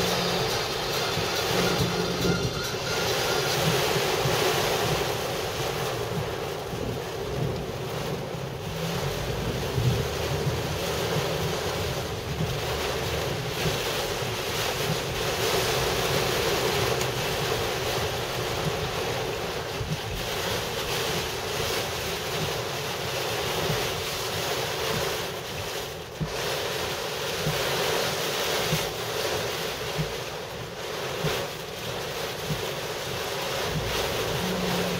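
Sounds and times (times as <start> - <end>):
heavy rain on car roof: 0.0 - 34.9.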